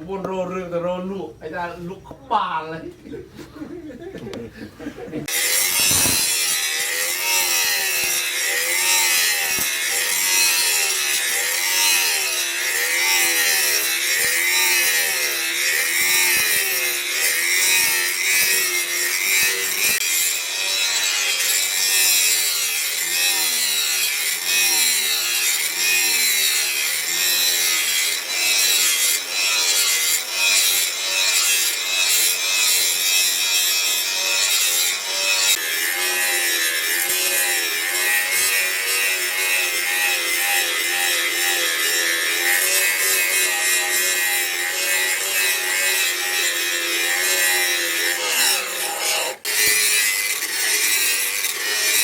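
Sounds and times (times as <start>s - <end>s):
hand saw rasping: 5.2s - 52.0s.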